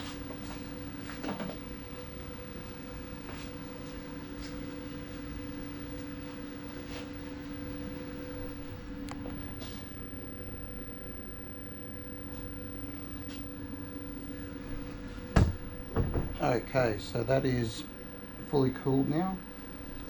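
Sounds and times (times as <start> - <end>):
two-tone mechanical hum: 0.0 - 20.0.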